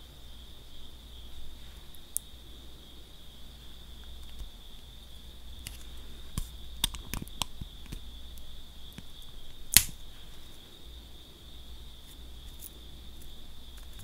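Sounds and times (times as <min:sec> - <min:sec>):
faint high hiss: 0:00.0 - 0:14.0.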